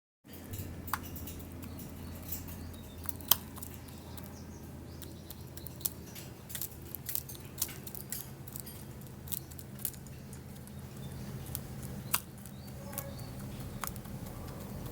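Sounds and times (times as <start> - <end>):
steady low hum: 0.3 - 14.9
hen pecking taps and clicks: 0.9 - 14.9.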